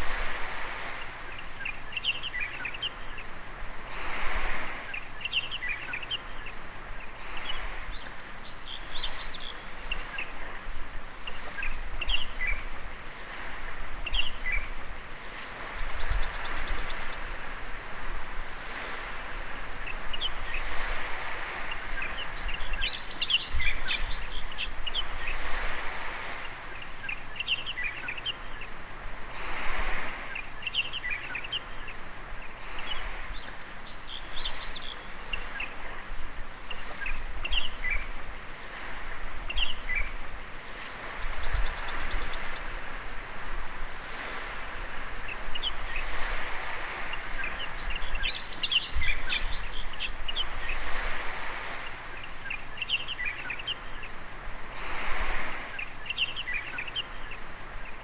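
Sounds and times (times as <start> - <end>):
birds chirping: 0.0 - 3.5, 4.2 - 58.0
small waves washing on beach: 0.0 - 58.0.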